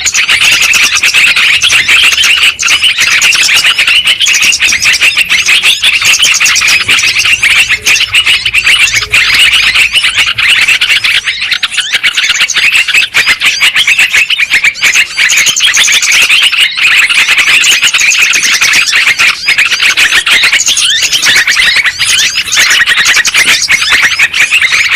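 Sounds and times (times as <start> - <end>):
birds chattering: 0.0 - 24.9.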